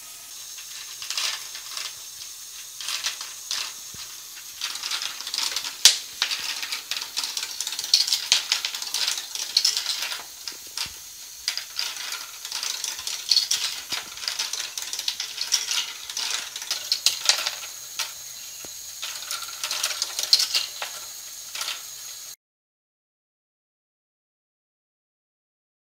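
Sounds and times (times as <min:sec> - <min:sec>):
plastic balls clattering and clicking: 0:00.0 - 0:22.3
faint motor whine: 0:00.0 - 0:22.4.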